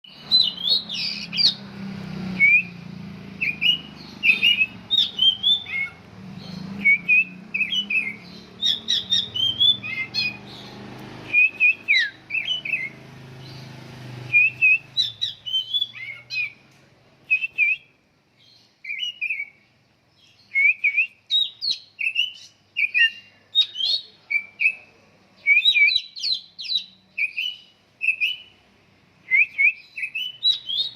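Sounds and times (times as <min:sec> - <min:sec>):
songbird chirping and whistling: 0:00.0 - 0:28.6, 0:29.2 - 0:30.9.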